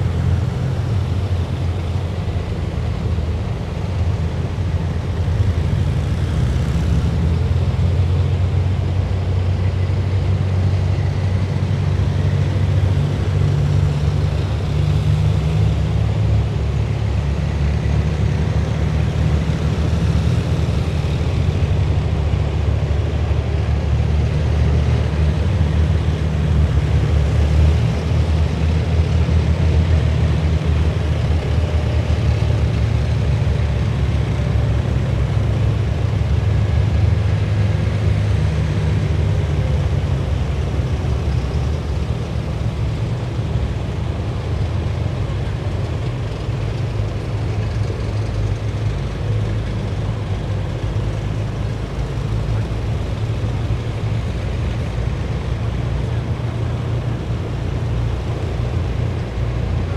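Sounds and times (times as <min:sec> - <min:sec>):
heavy diesel vehicles rumbling: 0:00.0 - 0:59.9.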